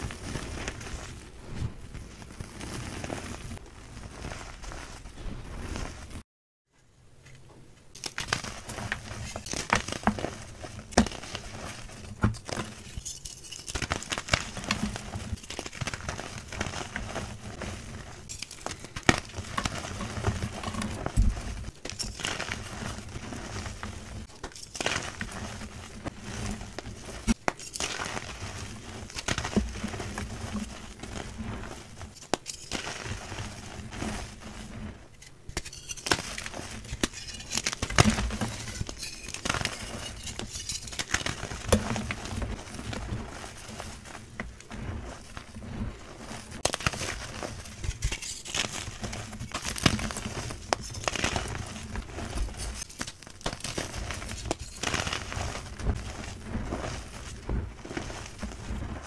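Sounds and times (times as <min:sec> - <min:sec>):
chalk crunching and crackling: 0:00.0 - 0:06.2, 0:07.9 - 0:59.0.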